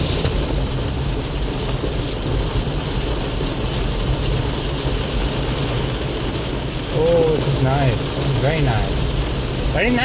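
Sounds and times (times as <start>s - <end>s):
rain hissing on car: 0.0s - 10.0s
road and engine rumble: 0.0s - 10.0s.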